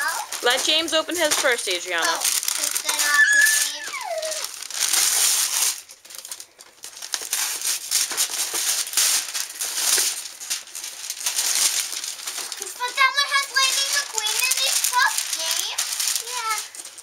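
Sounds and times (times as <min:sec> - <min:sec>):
wrapping paper tearing and rustling: 0:00.0 - 0:17.0.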